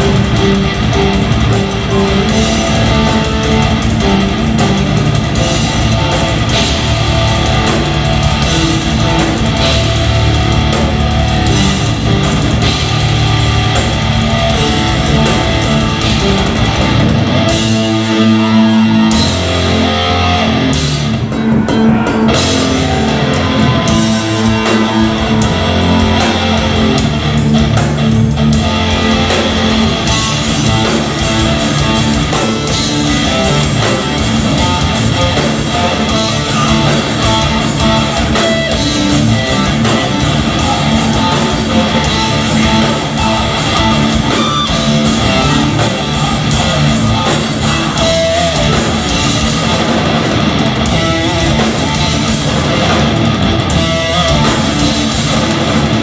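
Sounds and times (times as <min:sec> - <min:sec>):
metal band playing: 0:00.0 - 0:56.0.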